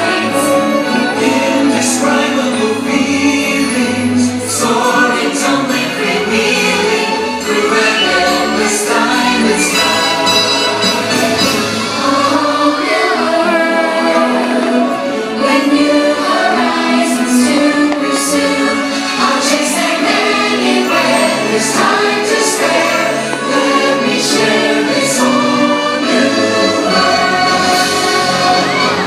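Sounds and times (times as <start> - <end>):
music with choir singing: 0.0 - 29.0.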